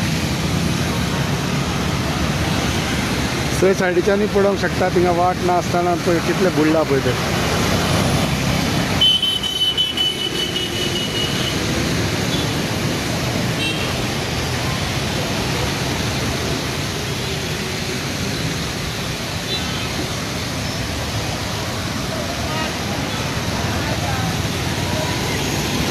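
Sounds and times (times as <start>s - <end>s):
traffic on flooded road: 0.0s - 25.9s.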